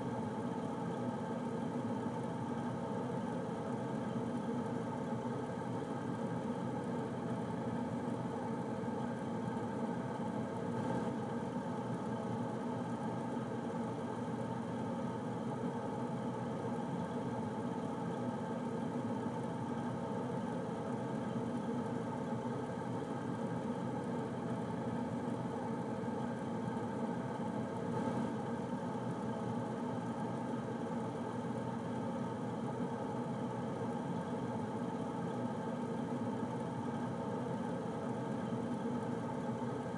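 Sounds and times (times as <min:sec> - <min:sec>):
air conditioner humming: 0:00.0 - 0:39.9.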